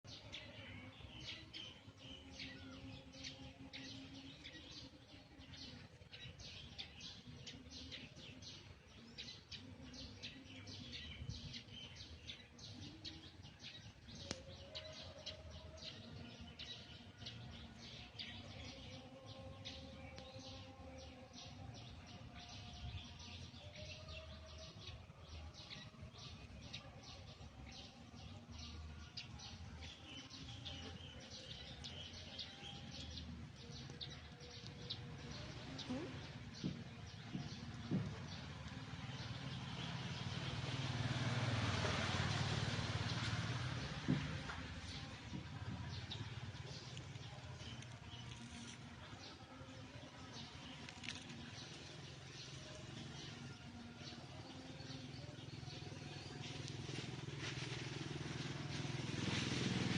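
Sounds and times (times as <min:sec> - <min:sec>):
small birds chirping: 0:00.0 - 0:59.7.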